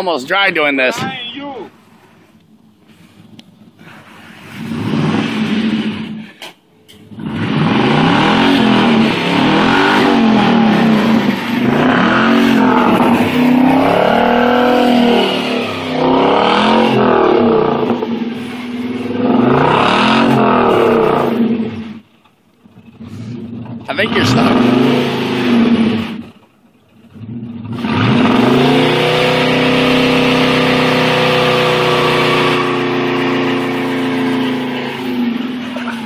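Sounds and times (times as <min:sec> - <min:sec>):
car engine revving hard: 0:04.1 - 0:22.0, 0:22.6 - 0:26.4, 0:27.0 - 0:36.0.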